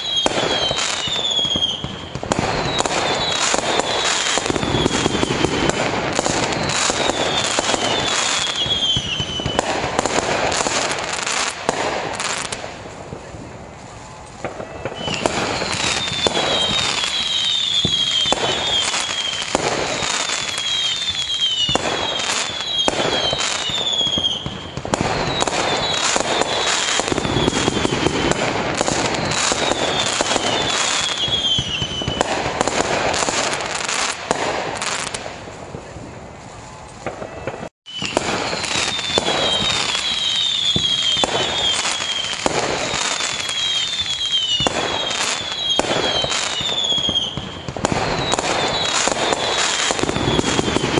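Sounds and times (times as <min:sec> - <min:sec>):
fireworks bangs and crackling: 0:00.0 - 0:50.9
fireworks falling whistles: 0:00.0 - 0:50.9.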